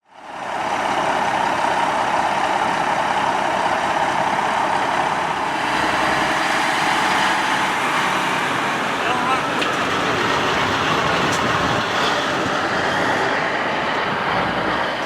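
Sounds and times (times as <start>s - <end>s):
fire truck engine running: 0.0s - 15.0s.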